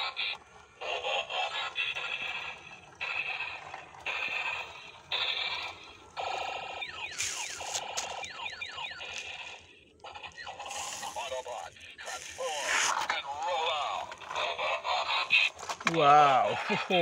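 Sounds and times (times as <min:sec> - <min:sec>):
toy gear motor whirring: 0:00.0 - 0:17.0.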